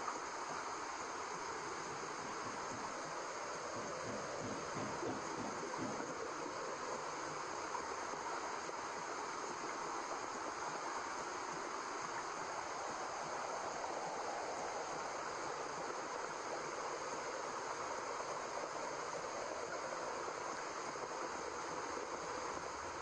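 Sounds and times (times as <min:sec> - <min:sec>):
steady white noise hiss: 0:00.0 - 0:23.0.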